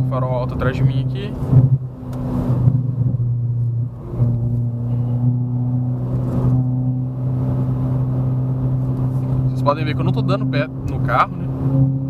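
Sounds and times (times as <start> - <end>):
car engine and exhaust droning: 0.0 - 12.0.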